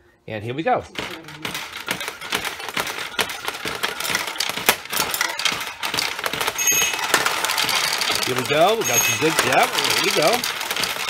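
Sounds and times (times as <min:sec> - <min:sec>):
steel balls clattering through pins: 0:00.9 - 0:11.0.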